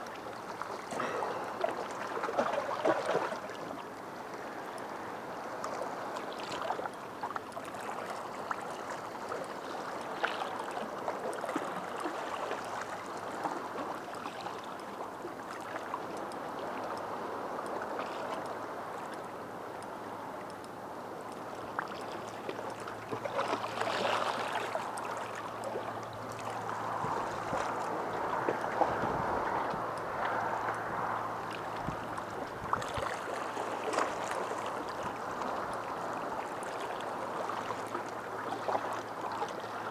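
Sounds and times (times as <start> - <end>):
small waves lapping against rocks: 0.0 - 20.0, 21.2 - 39.9.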